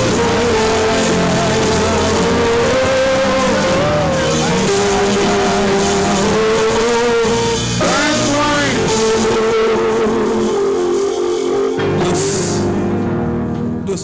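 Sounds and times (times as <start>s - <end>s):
church worship music: 0.0s - 14.0s.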